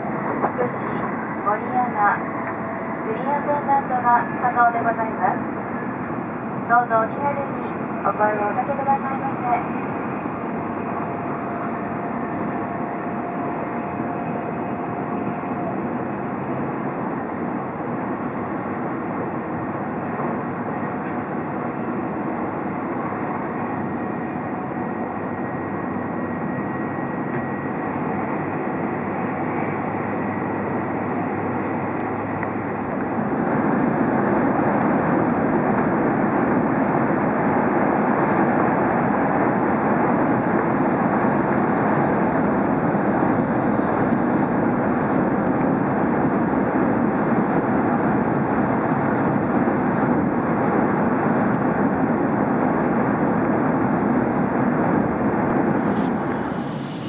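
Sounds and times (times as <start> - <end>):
high-speed train cabin noise: 0.0 - 57.0.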